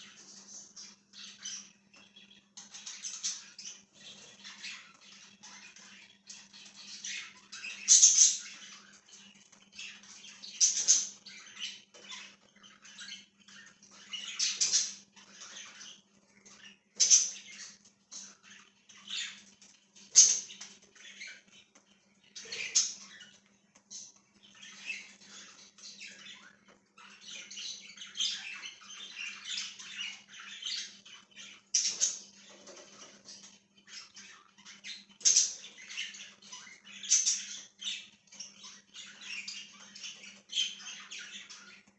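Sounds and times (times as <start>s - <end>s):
budgies chirping and chattering: 0.0s - 41.9s.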